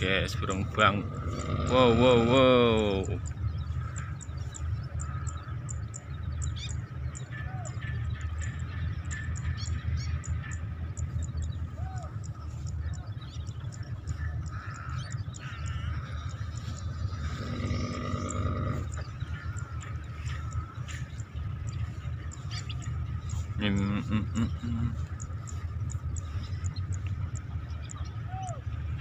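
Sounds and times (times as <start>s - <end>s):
small birds chirping: 0.0s - 29.0s
wind rumble on microphone: 0.0s - 29.0s.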